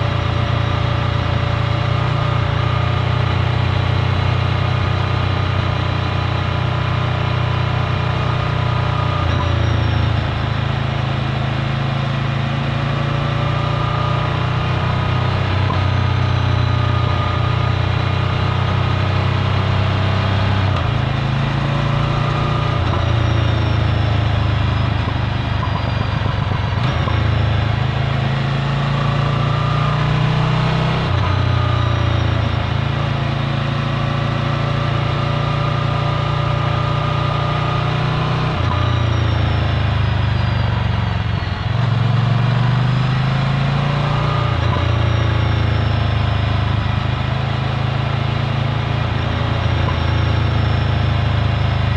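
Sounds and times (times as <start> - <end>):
motorcycle engine while riding: 0.0 - 51.9.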